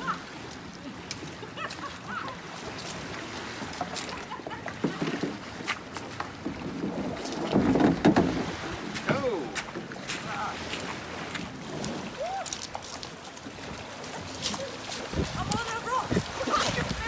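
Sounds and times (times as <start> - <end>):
waves washing over pebbles: 0.0 - 17.0
kayak scraping over pebbles: 0.6 - 17.0.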